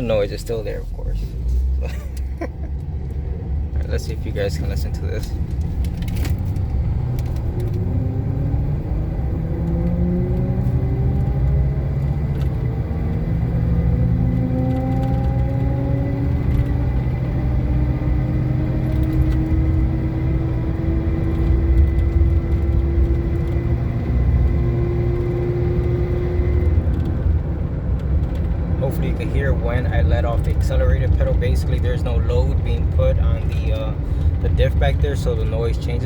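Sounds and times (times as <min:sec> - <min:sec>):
engine and road rumble: 0:00.0 - 0:36.0.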